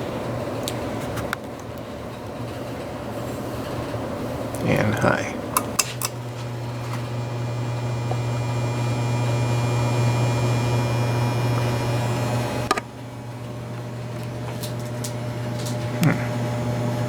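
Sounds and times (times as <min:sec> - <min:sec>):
ceiling fan motor humming: 0:02.9 - 0:17.0.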